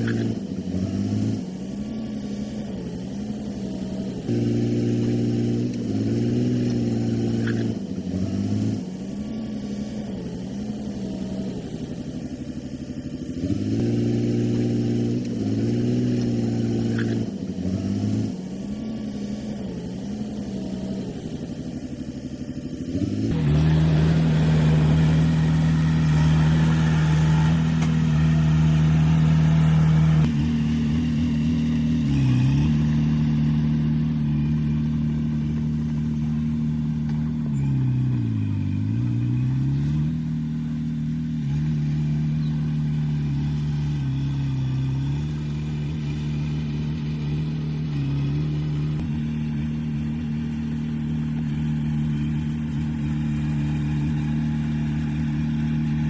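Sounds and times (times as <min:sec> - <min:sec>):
heavy diesel engine working hard: 0:00.0 - 0:56.0.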